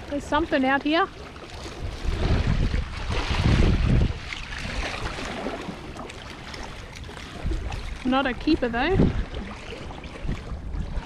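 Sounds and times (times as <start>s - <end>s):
sea water washing: 0.0s - 11.0s
wind gusting on microphone: 0.0s - 11.0s.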